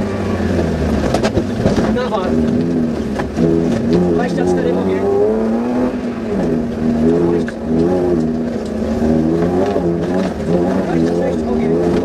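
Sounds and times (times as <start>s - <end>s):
car engine revving from inside cabin: 2.0s - 12.0s.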